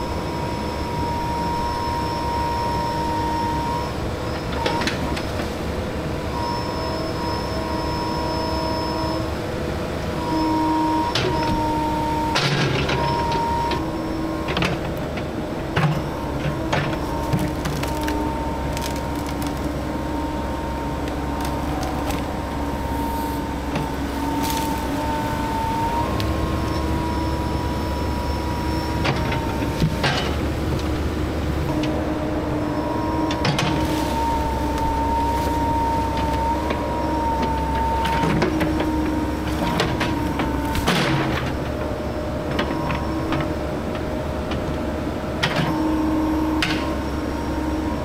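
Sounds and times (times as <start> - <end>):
excavator diesel engine: 0.0 - 48.0
hydraulic whine: 0.0 - 48.0.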